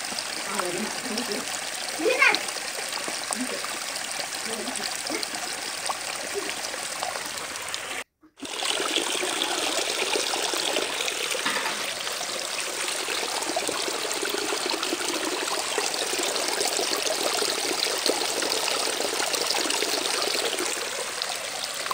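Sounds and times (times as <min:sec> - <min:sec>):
water trickling: 0:00.0 - 0:21.9.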